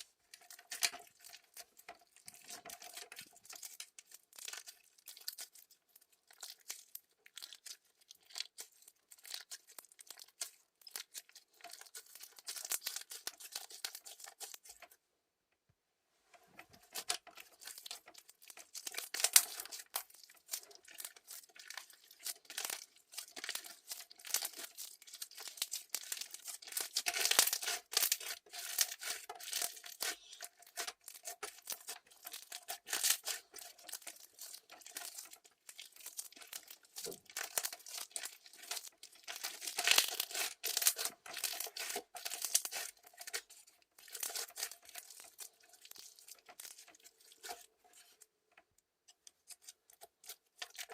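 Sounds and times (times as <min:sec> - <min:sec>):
slime being squished: 0:00.4 - 0:14.9, 0:16.8 - 0:48.1.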